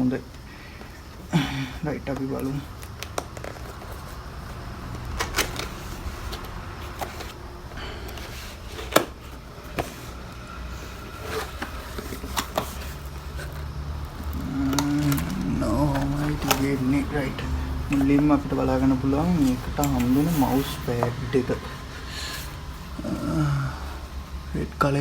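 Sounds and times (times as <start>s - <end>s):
steady low hum: 0.0s - 25.0s
cardboard packaging rustling: 2.0s - 24.4s.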